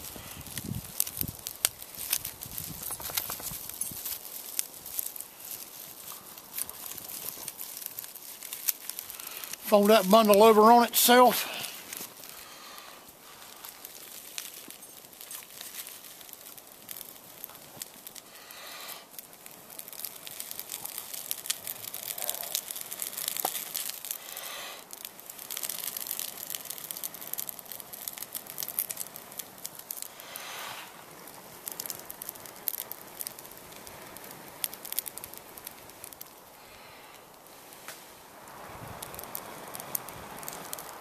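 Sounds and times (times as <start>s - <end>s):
dry tinder crackling: 0.0s - 41.0s
hissing blows into tinder: 0.0s - 41.0s.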